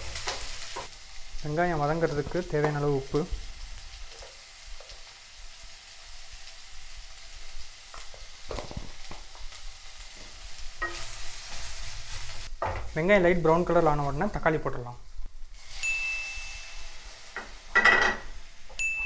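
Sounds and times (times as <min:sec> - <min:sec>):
onions sizzling in a pan: 0:00.0 - 0:19.0.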